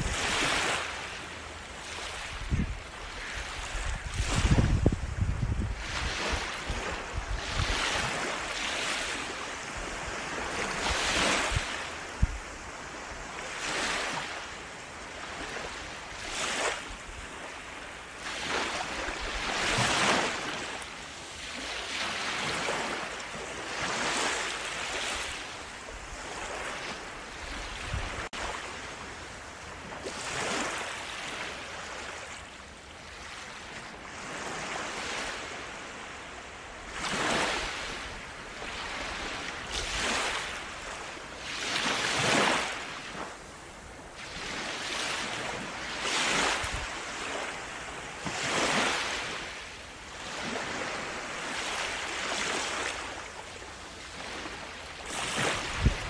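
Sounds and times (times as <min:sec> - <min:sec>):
small waves breaking on beach: 0:00.0 - 0:56.0.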